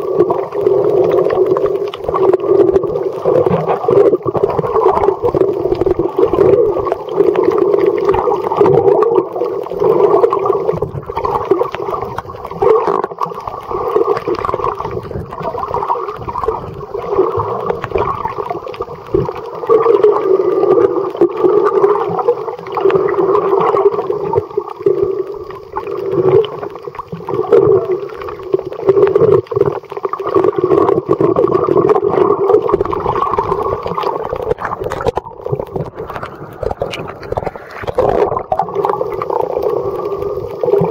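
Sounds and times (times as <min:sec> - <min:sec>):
muffled underwater water rush: 0:00.0 - 0:40.9.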